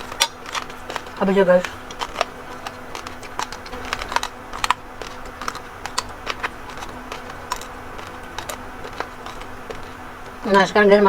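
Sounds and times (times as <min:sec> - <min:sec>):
chewing raw rice grains: 0:00.0 - 0:11.0.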